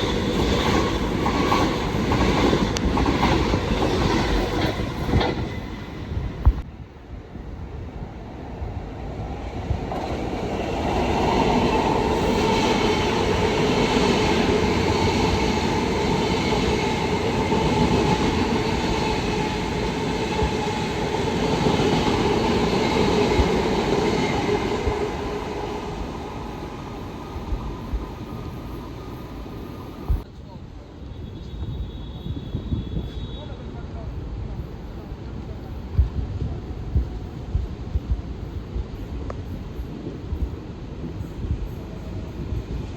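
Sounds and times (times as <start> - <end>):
train wheels on rail: 0.0 - 6.7, 7.6 - 30.3, 31.1 - 42.9
held train tones: 0.0 - 42.9.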